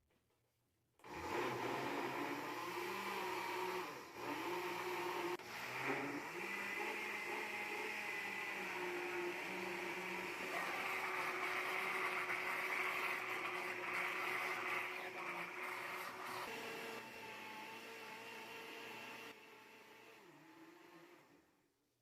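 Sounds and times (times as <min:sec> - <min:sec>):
blender motor running: 0:01.0 - 0:21.5.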